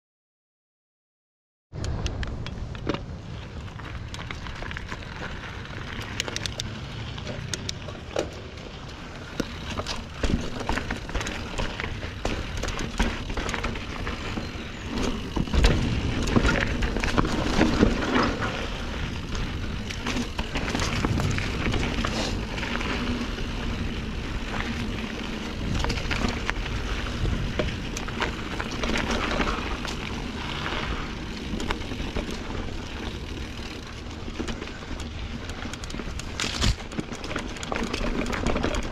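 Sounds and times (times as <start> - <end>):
bike clicks and rattles: 1.8 - 38.9
bike tyres crunching on dirt: 1.9 - 38.9.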